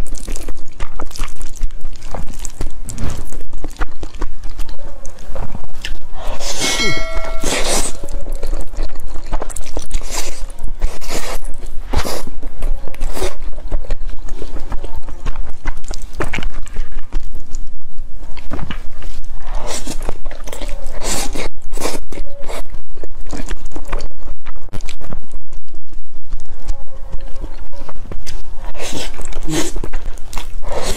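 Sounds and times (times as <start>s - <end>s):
slurping and chewing noodles: 0.0s - 30.9s.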